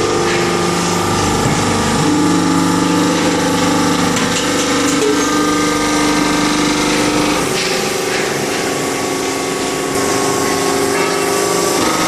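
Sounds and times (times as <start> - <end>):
hydraulic press motor humming: 0.0 - 12.0.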